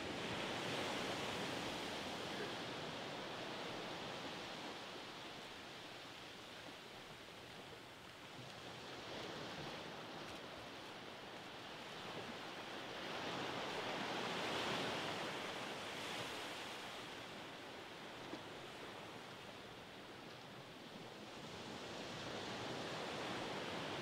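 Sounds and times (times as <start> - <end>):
ocean waves washing up beach: 0.0 - 24.0.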